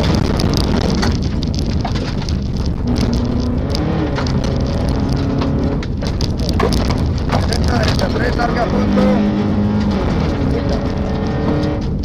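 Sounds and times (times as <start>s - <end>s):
gravel pinging against car underside: 0.0s - 12.0s
rally car engine running hard: 0.0s - 12.0s.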